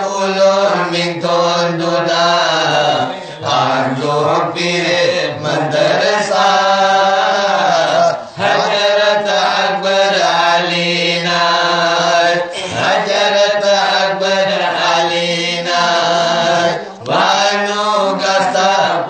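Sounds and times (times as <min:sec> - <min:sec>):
men chanting devotional song: 0:00.0 - 0:19.0.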